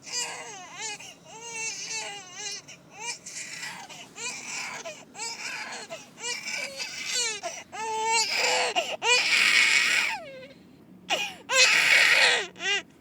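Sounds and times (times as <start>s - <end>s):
baby crying: 0.1s - 10.4s, 11.1s - 12.8s.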